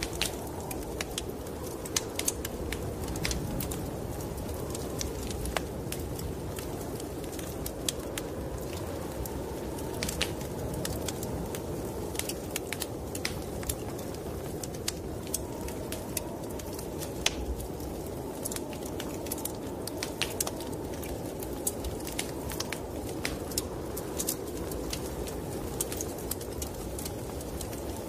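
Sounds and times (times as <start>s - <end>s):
low rush of wind: 0.0s - 28.0s
wood fire crackling: 0.0s - 28.0s.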